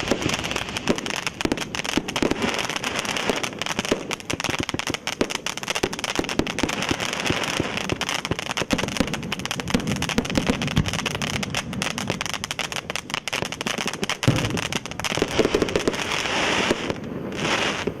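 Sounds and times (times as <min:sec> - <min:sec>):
firework fountain hissing and crackling: 0:00.0 - 0:18.0.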